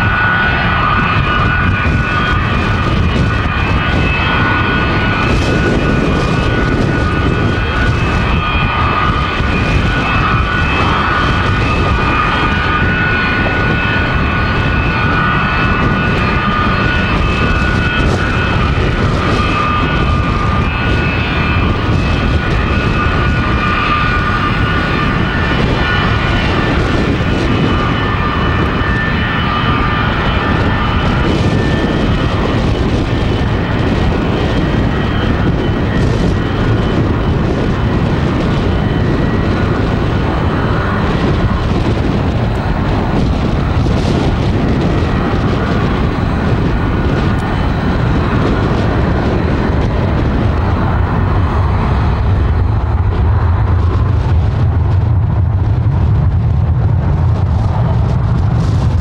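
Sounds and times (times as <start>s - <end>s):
high jet whine: 0.0s - 59.0s
jet engine rumble: 0.0s - 59.0s.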